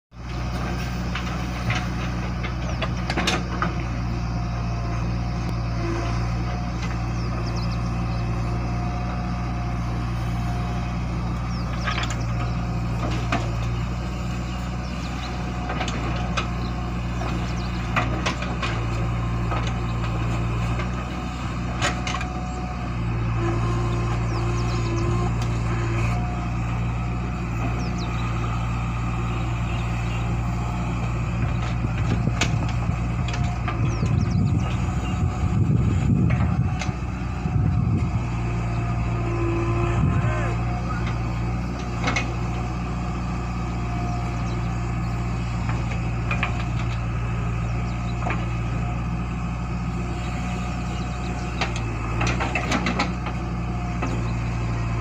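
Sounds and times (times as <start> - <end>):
diesel engine under load: 0.1 - 55.0
backhoe digging and dumping soil: 0.2 - 55.0.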